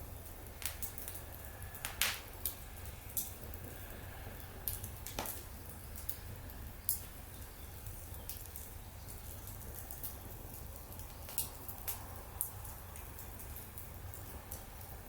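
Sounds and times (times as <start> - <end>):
fire hissing: 0.0 - 15.0
wood fire crackling: 0.0 - 15.0.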